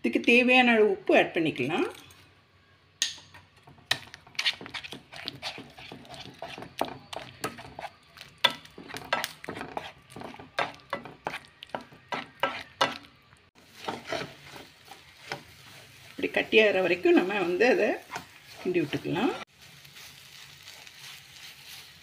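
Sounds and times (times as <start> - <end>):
spoon stirring and scraping a pan: 3.4 - 22.0.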